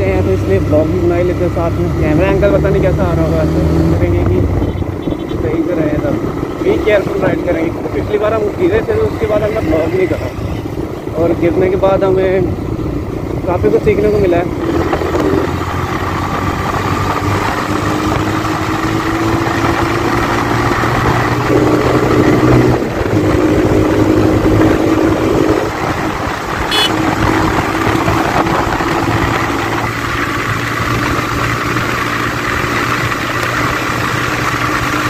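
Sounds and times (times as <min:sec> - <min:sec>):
motorcycle engine running: 0:00.0 - 0:35.0
wind rushing over microphone: 0:01.7 - 0:35.0.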